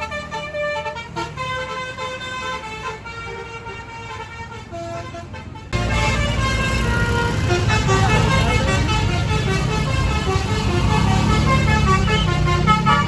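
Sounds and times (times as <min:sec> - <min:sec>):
bus engine rumble: 0:00.0 - 0:13.0
melodic bus horn: 0:00.0 - 0:13.0.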